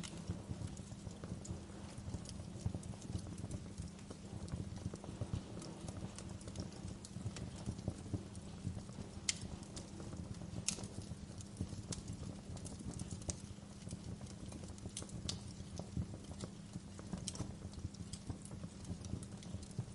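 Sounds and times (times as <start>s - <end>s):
low rumble of flames: 0.0s - 19.9s
wood fire crackling: 0.0s - 19.9s.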